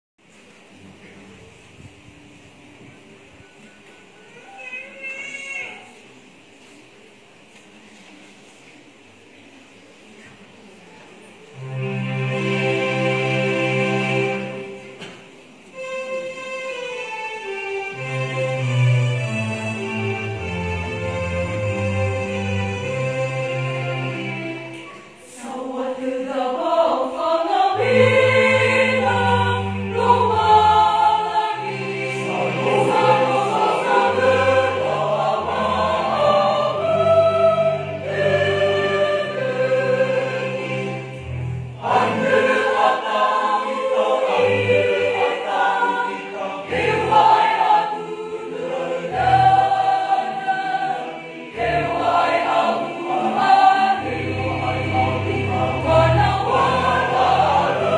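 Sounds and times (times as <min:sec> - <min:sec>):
choir singing a hymn: 0:11.4 - 0:57.9.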